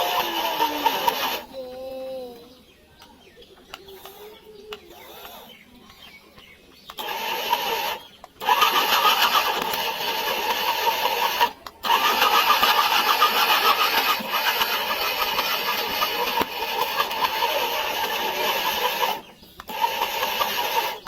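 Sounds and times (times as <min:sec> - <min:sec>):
small gear motor whirring: 0:00.0 - 0:01.5, 0:03.9 - 0:05.6, 0:06.8 - 0:21.0.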